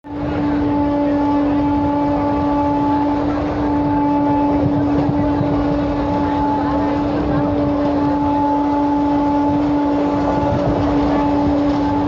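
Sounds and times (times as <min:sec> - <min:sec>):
train droning: 0:00.0 - 0:12.0.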